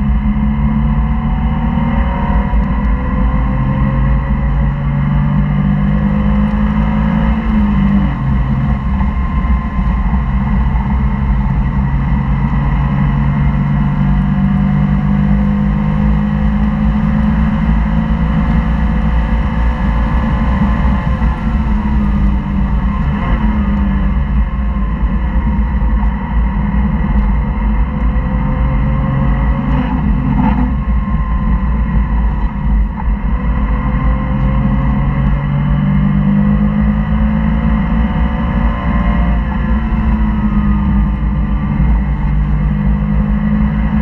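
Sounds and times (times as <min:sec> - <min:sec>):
car engine running hard: 0:00.0 - 0:44.0
road and wind noise: 0:00.0 - 0:44.0.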